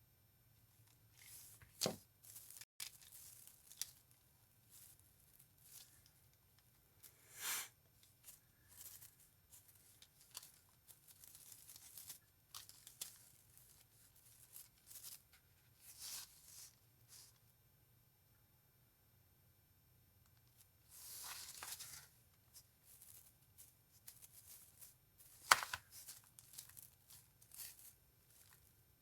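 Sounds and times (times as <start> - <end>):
craft materials rustling: 1.1 - 17.4, 20.5 - 28.8.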